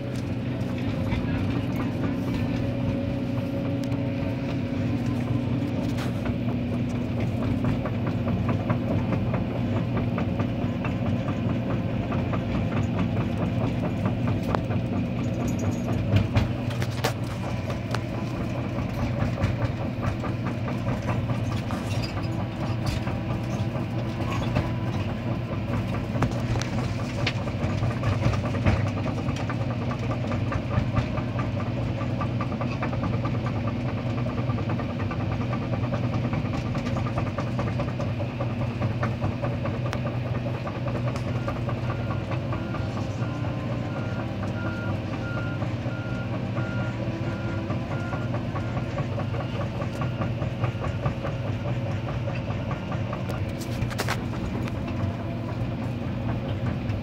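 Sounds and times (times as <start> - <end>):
excavator diesel engine under load: 0.0 - 57.0.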